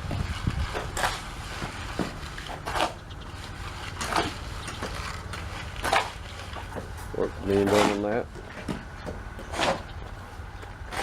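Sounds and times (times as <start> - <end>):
tool scraping wet mortar: 0.0 - 8.8, 9.4 - 9.9.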